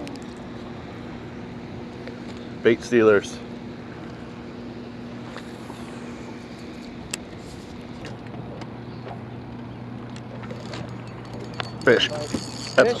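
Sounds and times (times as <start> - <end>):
boat motor humming: 0.0 - 13.0
open-air noise: 0.0 - 13.0.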